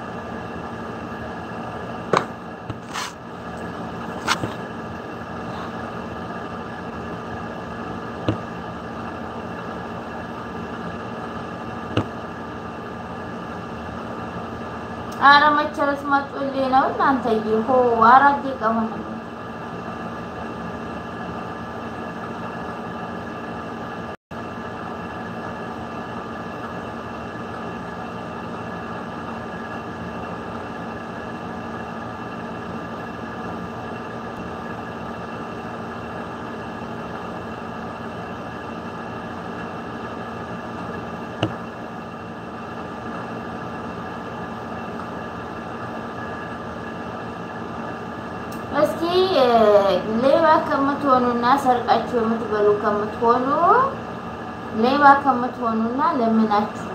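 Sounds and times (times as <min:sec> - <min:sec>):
steady machine hum: 0:00.0 - 0:56.9.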